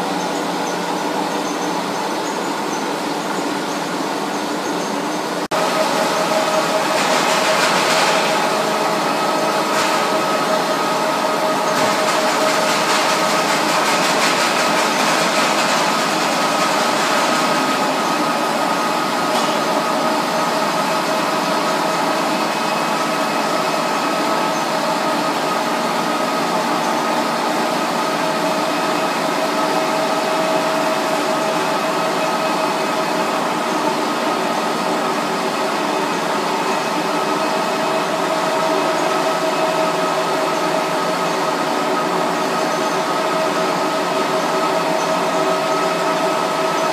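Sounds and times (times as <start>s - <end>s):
production machine running: 0.0s - 46.9s.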